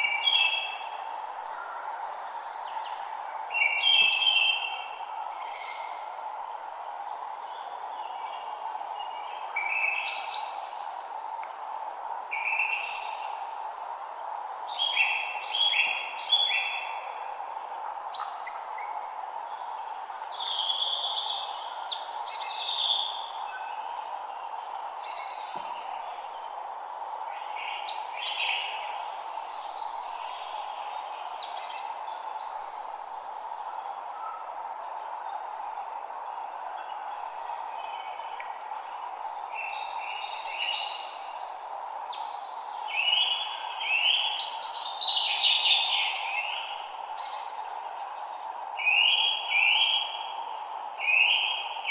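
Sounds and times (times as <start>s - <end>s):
songbirds chirping: 0.0s - 51.9s
steady background hiss: 0.0s - 51.9s.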